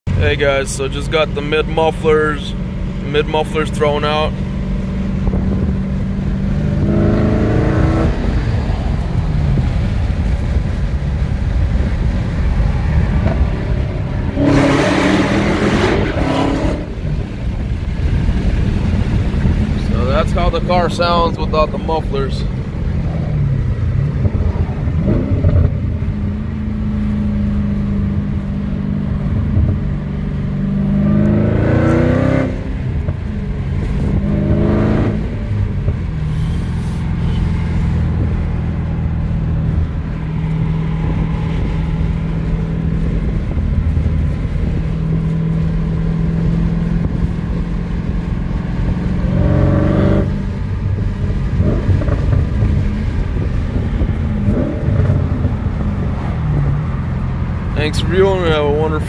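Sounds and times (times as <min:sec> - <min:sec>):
car exhaust drone: 0:00.1 - 0:59.0.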